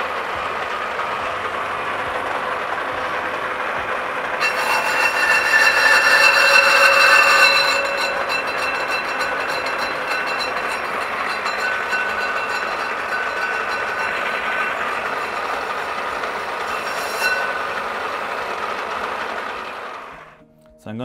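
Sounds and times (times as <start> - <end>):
lathe cutter ringing whine: 0.0 - 20.4
lathe running: 0.0 - 20.4.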